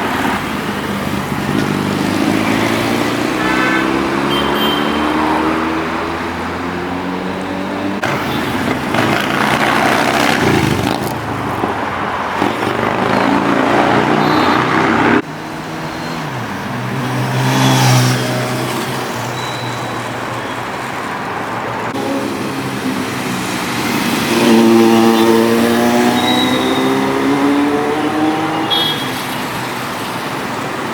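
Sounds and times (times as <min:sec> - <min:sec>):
motorcycles revving and passing by: 0:00.0 - 0:30.9.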